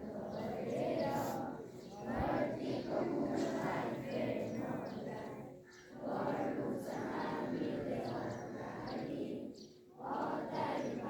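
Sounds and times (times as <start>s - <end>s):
children's voices in unison: 0.0s - 11.0s.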